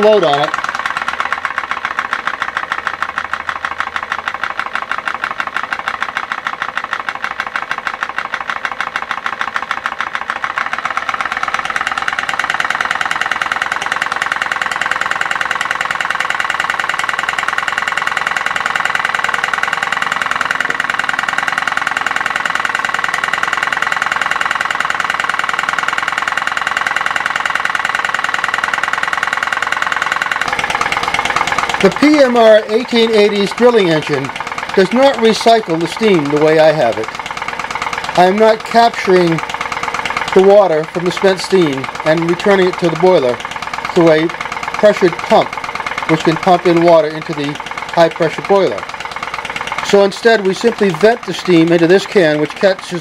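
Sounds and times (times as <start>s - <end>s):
model steam engine exhaust beat: 0.0s - 53.0s.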